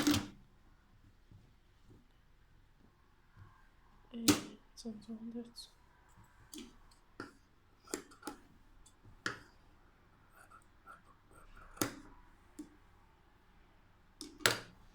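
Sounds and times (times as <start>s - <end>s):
faint room noise: 0.0s - 14.9s.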